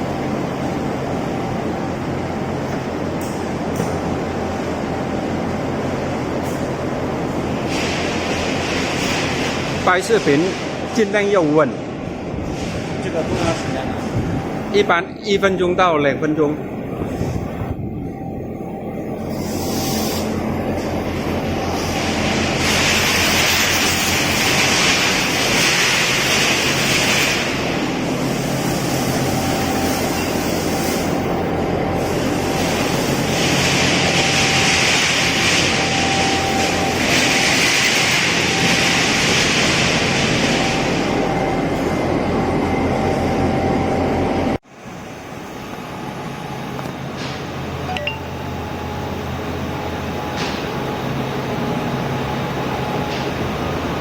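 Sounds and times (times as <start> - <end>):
factory machinery hum: 0.0 - 54.0.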